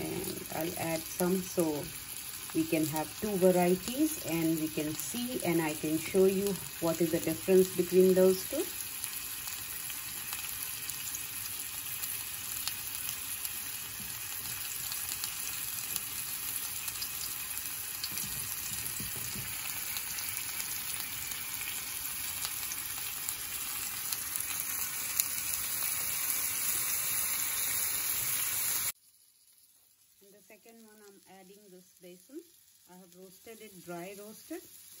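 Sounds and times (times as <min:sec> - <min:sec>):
kebabs sizzling in oil: 0:00.0 - 0:35.0.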